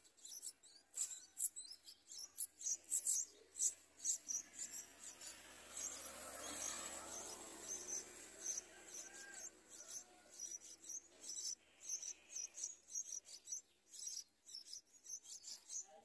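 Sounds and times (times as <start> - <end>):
nestlings cheeping: 0.0 - 16.0.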